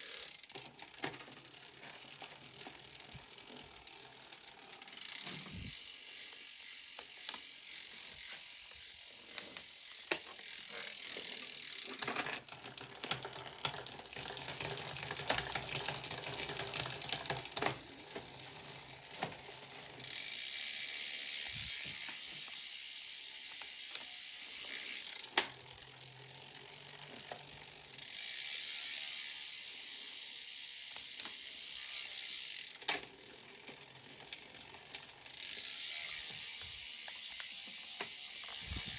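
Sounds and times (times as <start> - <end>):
bicycle chain whirring: 0.0 - 38.9.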